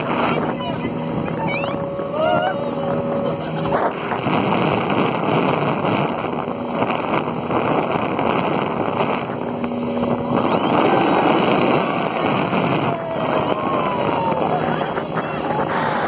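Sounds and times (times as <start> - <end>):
boat engine hum: 0.0 - 16.0
wind on microphone: 0.0 - 16.0.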